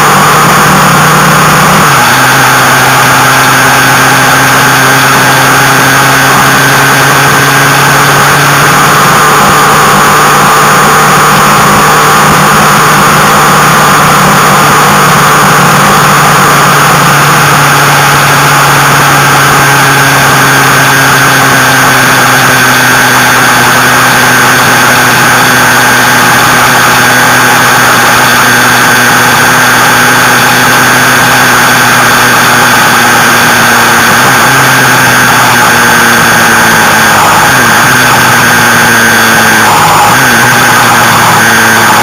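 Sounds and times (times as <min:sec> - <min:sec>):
motorcycle engine cruising: 0:00.0 - 0:42.0
road noise: 0:00.0 - 0:42.0.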